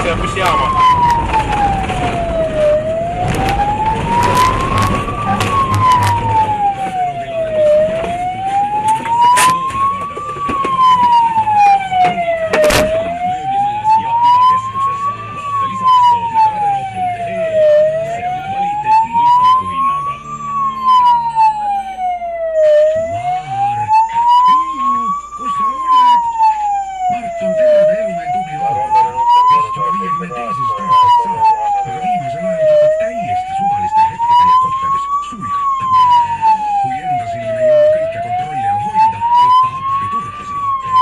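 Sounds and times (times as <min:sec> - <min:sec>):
car engine and road noise: 0:00.0 - 0:41.0
police siren wailing: 0:00.0 - 0:41.0.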